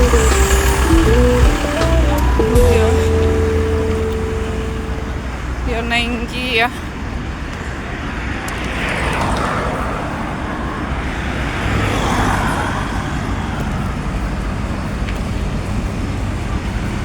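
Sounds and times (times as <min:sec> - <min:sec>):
road traffic rumble: 0:00.0 - 0:17.0
vehicles passing by: 0:00.0 - 0:17.0.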